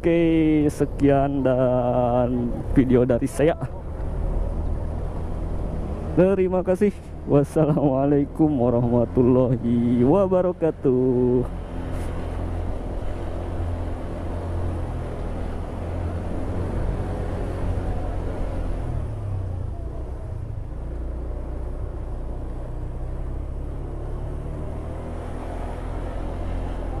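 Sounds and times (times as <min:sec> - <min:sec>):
road and wind noise: 0:00.0 - 0:27.0.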